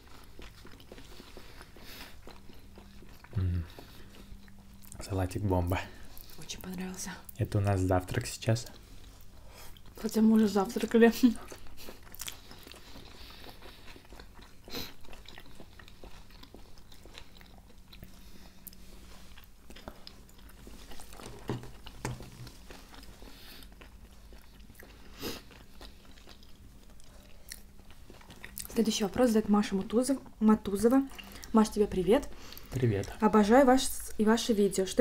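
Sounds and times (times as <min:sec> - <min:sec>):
close-miked chewing: 0:00.0 - 0:34.4.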